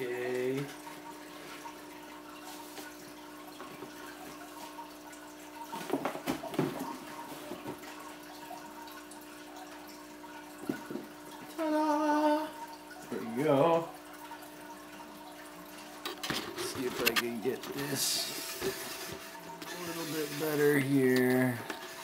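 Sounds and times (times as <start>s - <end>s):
aquarium filter humming: 0.0s - 22.0s
water trickling: 0.0s - 22.0s.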